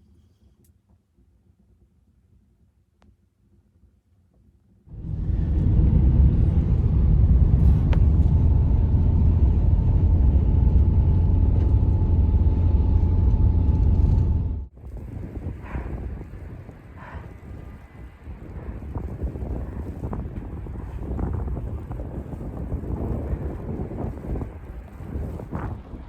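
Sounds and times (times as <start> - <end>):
wind buffeting microphone: 4.9 - 26.0.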